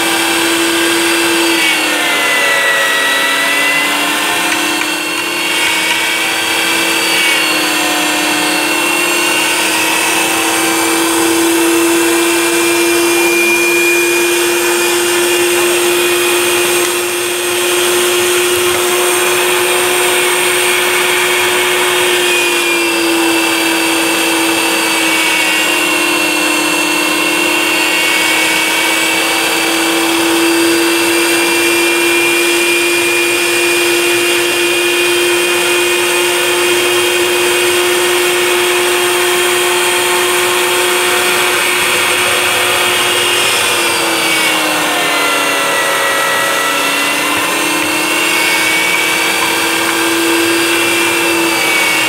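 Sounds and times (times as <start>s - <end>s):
electric meat grinder motor: 0.0s - 52.0s.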